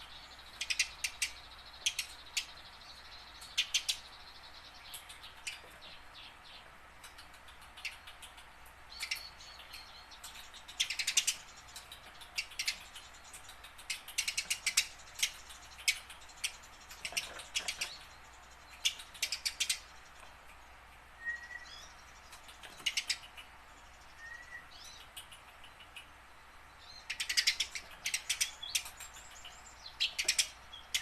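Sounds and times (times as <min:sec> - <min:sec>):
sparrow chirping: 0:00.0 - 0:31.0.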